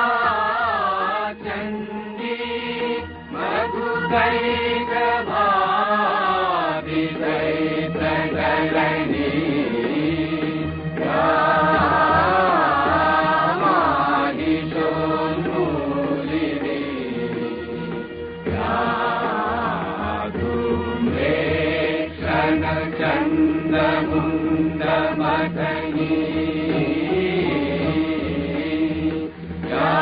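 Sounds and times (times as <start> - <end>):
person chanting a hymn: 3.4 - 17.5, 18.6 - 30.0.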